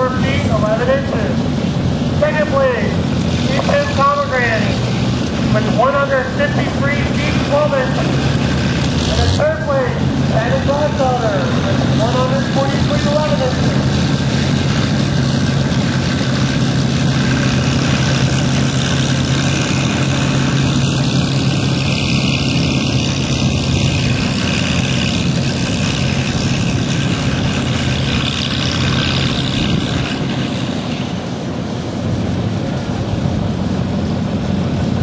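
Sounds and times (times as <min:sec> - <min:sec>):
engine humming steadily: 0:00.0 - 0:35.0
steady background rush: 0:00.0 - 0:35.0.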